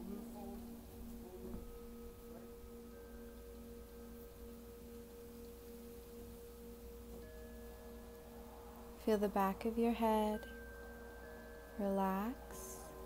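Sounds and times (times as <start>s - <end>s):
faint higher tone: 0.0s - 13.0s
meditation drone of pure tones: 0.0s - 13.0s.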